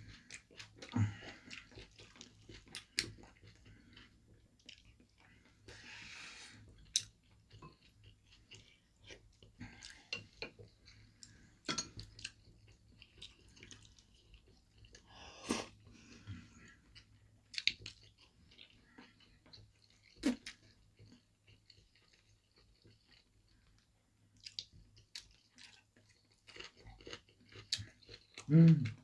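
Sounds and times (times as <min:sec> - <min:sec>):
chewing and mouth sounds: 0:00.0 - 0:05.7, 0:06.6 - 0:29.0.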